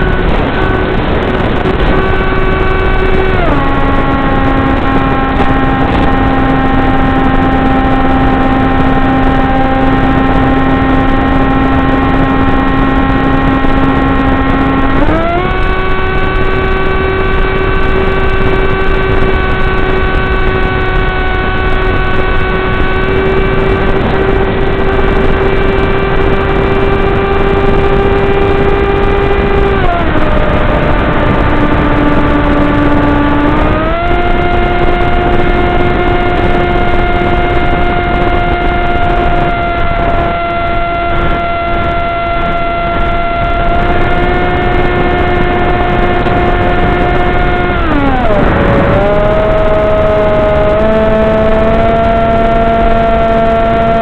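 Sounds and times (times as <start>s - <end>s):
model airplane motor whining: 0.0s - 54.0s
rushing wind: 0.0s - 54.0s.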